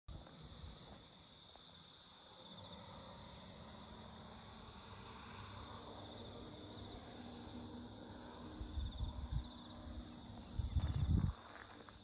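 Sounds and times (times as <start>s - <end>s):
insects chirping: 0.1s - 12.0s
pulsing insect trill: 0.1s - 12.0s.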